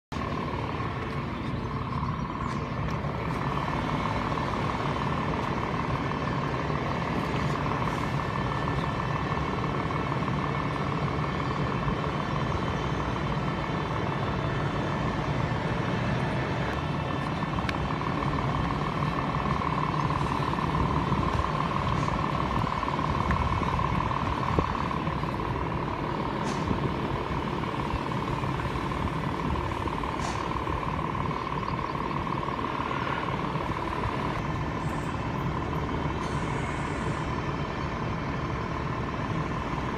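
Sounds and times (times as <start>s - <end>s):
diesel engines rumbling: 0.1s - 39.9s.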